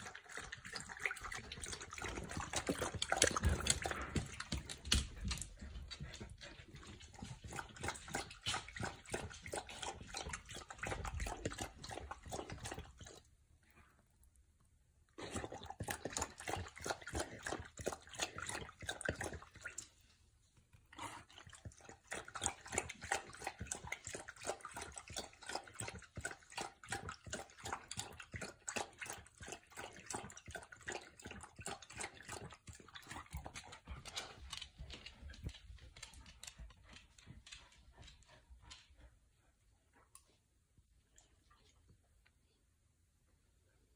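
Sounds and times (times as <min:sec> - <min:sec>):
puppy lapping water from metal bowl: 0:00.0 - 0:13.9, 0:15.1 - 0:39.1.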